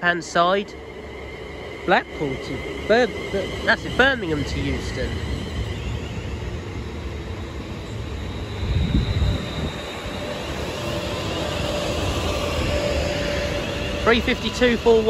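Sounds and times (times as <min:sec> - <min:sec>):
faint high whine: 0:00.0 - 0:15.0
train rumble: 0:00.0 - 0:15.0.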